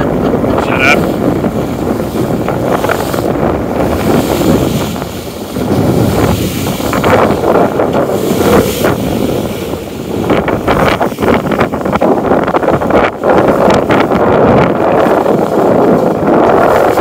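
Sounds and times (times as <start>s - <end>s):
sea rushing: 0.0s - 17.0s
wind buffeting microphone: 0.0s - 17.0s.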